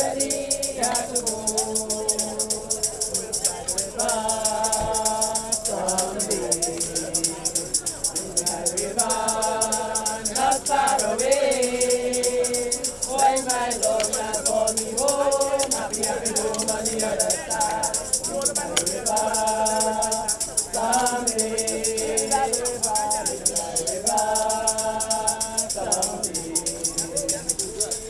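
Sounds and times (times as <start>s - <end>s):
group singing gospel chorus: 0.0s - 28.0s
shaker beat: 0.0s - 28.0s.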